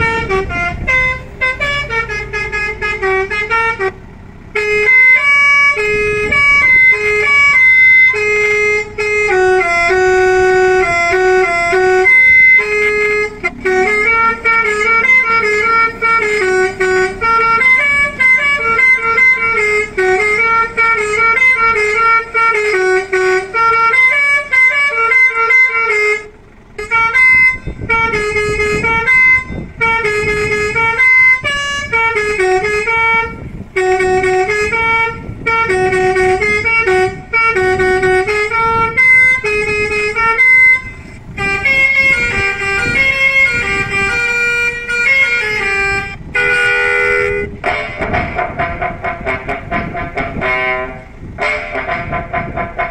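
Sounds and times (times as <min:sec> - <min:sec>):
electric horn playing a tune: 0:00.0 - 0:52.9.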